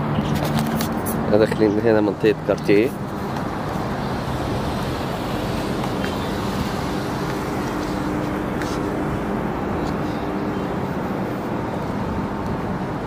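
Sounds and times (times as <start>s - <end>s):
car road noise: 0.0s - 13.0s
faint engine hum: 0.0s - 13.0s.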